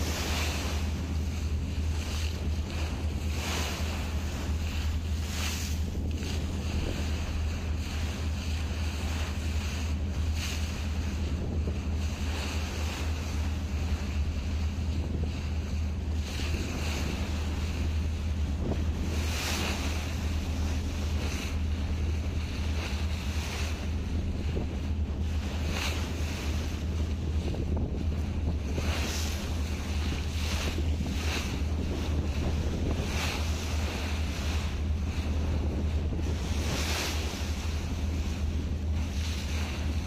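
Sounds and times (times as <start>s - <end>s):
boat engine drone: 0.0s - 40.0s
water rushing past: 0.0s - 40.0s
wind buffeting microphone: 0.0s - 40.0s.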